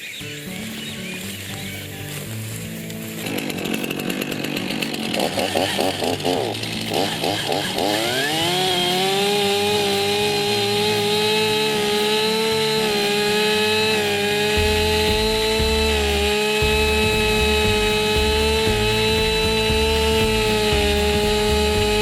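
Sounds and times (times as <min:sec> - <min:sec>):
chainsaw cutting log: 0:02.1 - 0:22.0.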